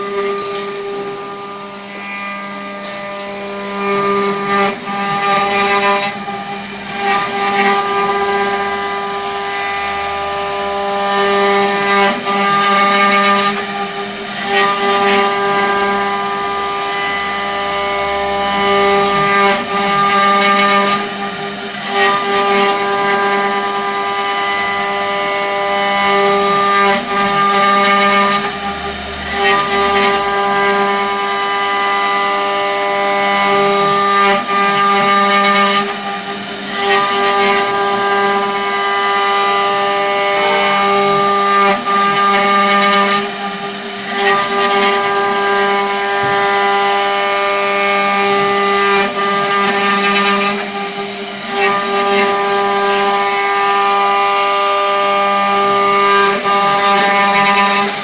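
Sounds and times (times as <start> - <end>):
router bits cutting wood: 0.0 - 58.0
router spindle whine: 0.0 - 58.0.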